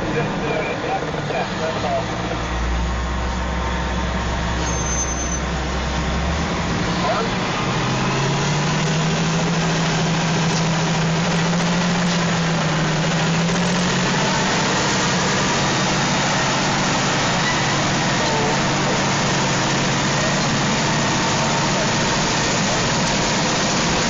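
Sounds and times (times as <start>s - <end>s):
diesel engines running hard: 0.0s - 24.0s.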